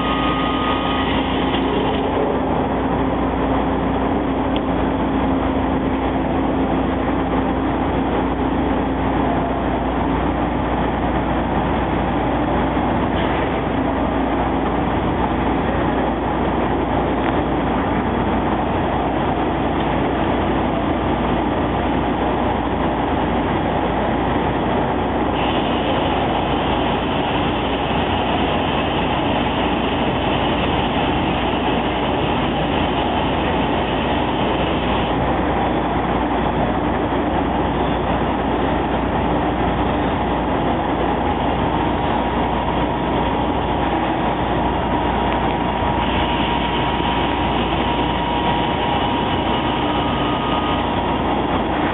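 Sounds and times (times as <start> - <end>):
glass-drilling machine running: 0.0 - 51.9
high-pitched machine whine: 0.0 - 51.9.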